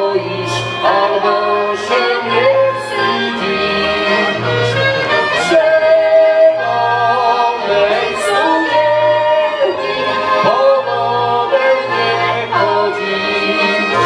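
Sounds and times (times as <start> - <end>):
accordion chords: 0.0 - 14.0
bagpipe: 0.0 - 14.0
clarinet: 0.0 - 14.0
double bass notes: 0.0 - 14.0.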